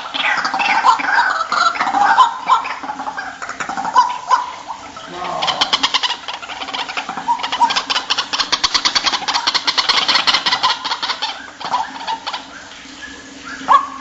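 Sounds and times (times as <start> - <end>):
waterhen pulsed calls: 0.0 - 14.0.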